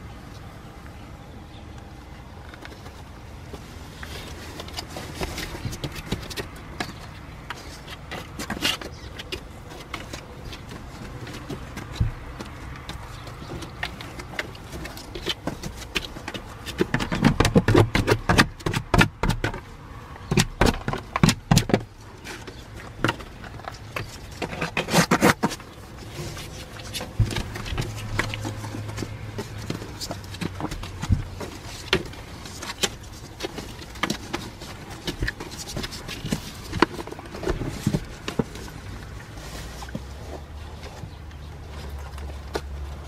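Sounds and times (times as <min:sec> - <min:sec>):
dog rustling and scraping in box: 0:02.6 - 0:43.0.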